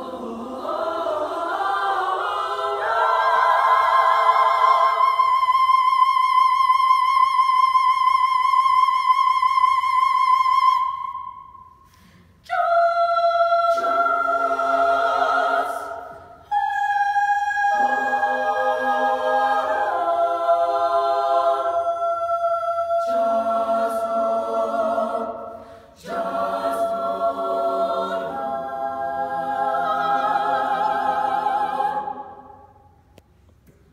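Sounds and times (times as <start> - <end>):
women's choir singing a cappella: 0.0 - 11.4, 12.4 - 32.8.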